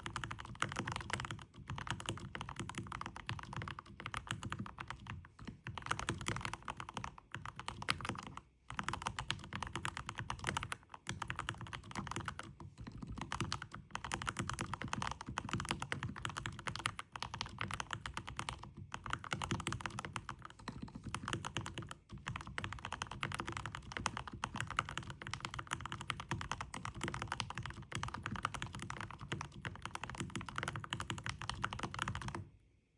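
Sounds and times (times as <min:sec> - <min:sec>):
fast mechanical keyboard typing: 0:00.0 - 0:32.4.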